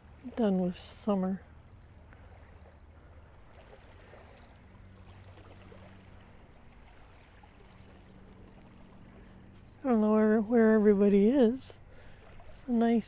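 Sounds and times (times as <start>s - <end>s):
small waves lapping: 0.0s - 13.0s
steady low hum: 0.0s - 13.0s.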